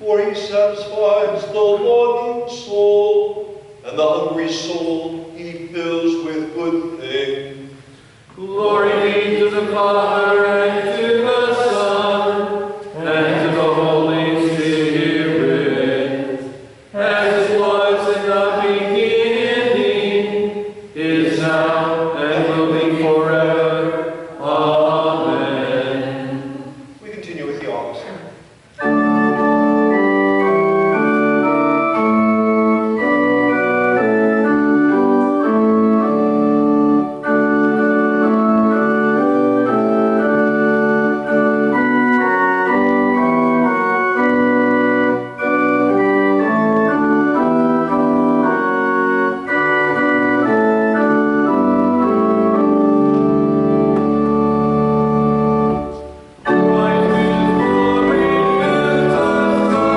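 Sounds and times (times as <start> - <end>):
organ playing sustained chords: 0.0 - 59.9.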